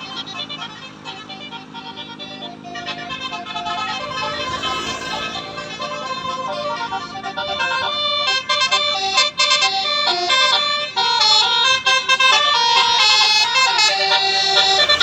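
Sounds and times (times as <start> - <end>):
bus musical horn melody: 0.0 - 15.0.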